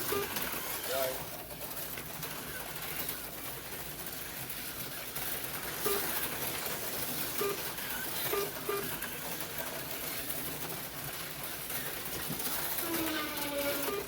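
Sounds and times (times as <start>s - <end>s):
slot cars whirring and rattling: 0.0s - 14.0s.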